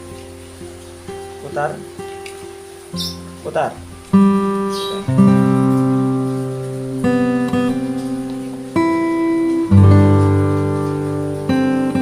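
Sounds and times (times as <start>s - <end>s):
strummed acoustic guitar chords: 0.0s - 12.0s.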